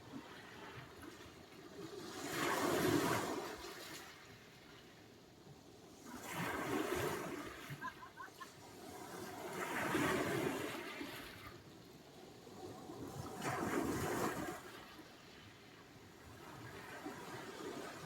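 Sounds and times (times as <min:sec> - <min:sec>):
waves washing in and back: 0:00.0 - 0:18.0.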